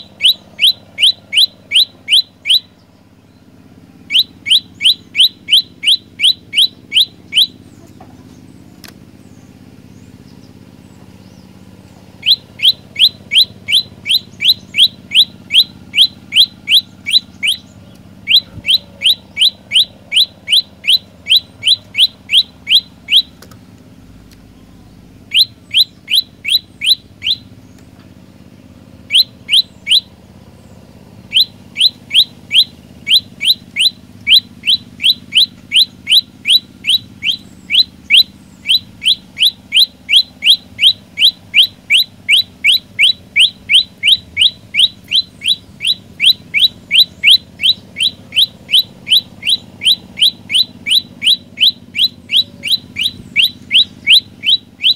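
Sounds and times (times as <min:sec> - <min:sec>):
bird singing sharp rising notes: 0:00.0 - 0:54.9.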